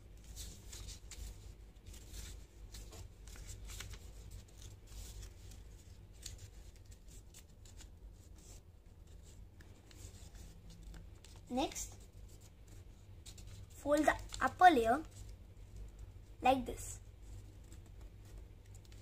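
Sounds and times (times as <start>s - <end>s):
paper rustling and crinkling: 0.0s - 16.2s, 17.2s - 19.0s.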